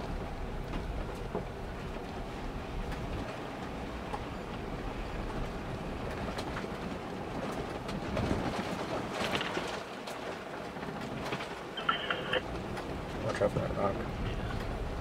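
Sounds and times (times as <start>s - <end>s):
tyres rumbling on gravel: 0.0s - 15.0s.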